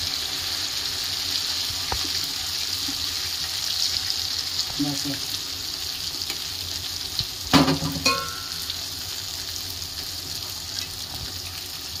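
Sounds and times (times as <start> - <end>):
fritters deep-frying in oil: 0.0 - 12.0.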